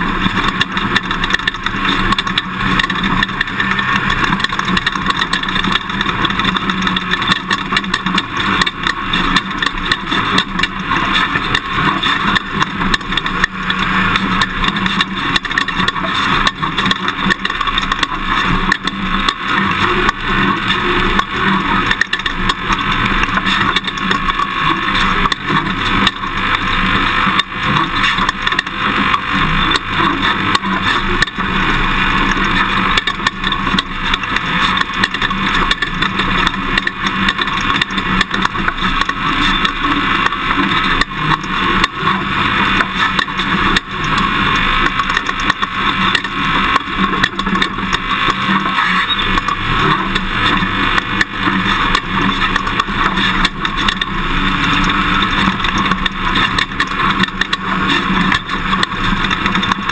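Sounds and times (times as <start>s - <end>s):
pickup engine and tyre noise: 0.0s - 59.9s.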